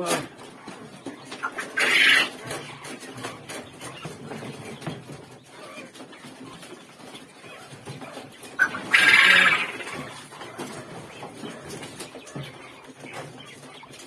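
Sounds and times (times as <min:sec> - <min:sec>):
birds scuffling: 0:00.0 - 0:14.0
quail calls: 0:00.6 - 0:14.0.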